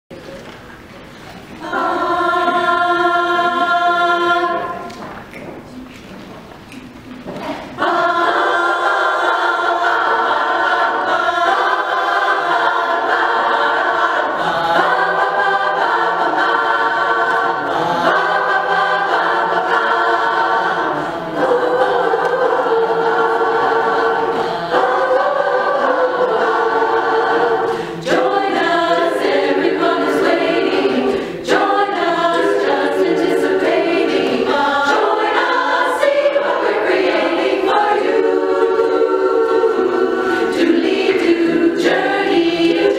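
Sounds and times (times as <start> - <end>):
women's chorus singing a cappella: 1.4 - 5.3, 7.2 - 42.9.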